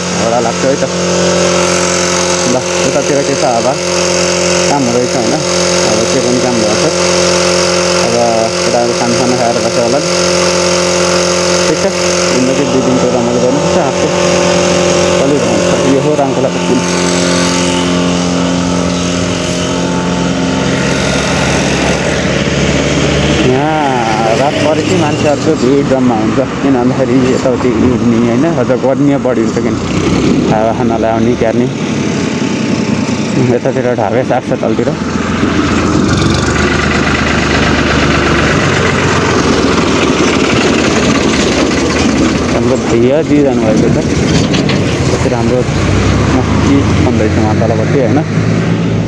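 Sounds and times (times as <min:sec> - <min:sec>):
water spraying: 0:00.0 - 0:30.5, 0:34.9 - 0:47.9
pressure washer humming: 0:00.0 - 0:49.0
tractor diesel engine chugging: 0:00.0 - 0:49.0.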